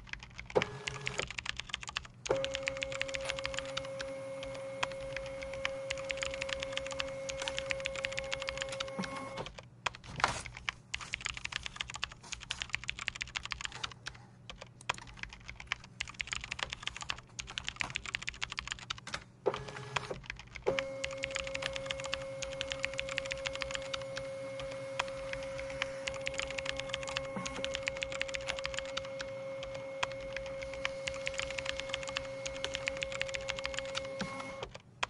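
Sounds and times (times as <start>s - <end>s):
steady high hum: 0.0s - 34.8s
keyboard typing: 0.0s - 35.0s.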